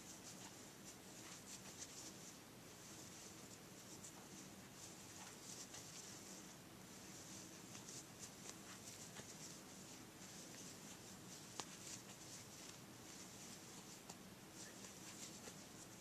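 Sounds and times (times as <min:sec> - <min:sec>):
crochet hook rustling yarn: 0:00.0 - 0:16.0.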